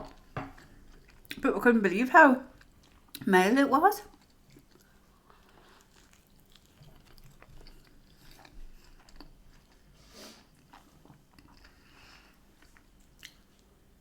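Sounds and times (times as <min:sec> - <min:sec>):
person chewing food: 0:00.1 - 0:01.4, 0:02.5 - 0:03.2, 0:04.1 - 0:13.8.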